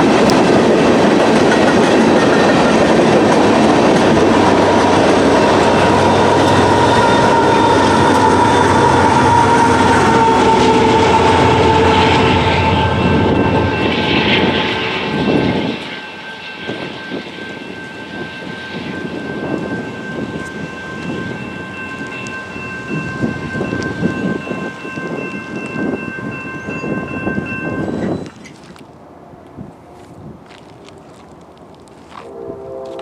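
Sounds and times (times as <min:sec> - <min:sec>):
freight train passing: 0:00.0 - 0:33.0.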